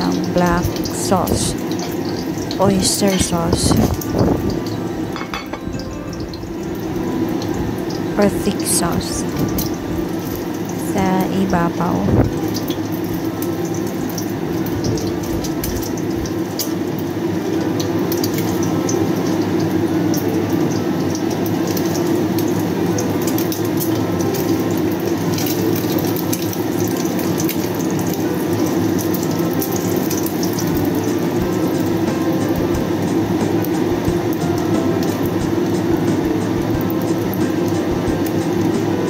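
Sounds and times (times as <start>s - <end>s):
egg frying in sizzling oil: 0.0s - 39.0s.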